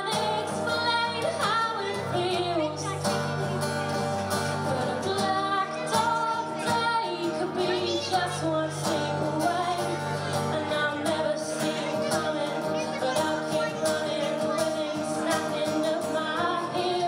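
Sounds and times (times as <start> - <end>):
woman singing: 0.0 - 3.9, 4.5 - 17.0
strummed acoustic guitar: 0.0 - 17.0.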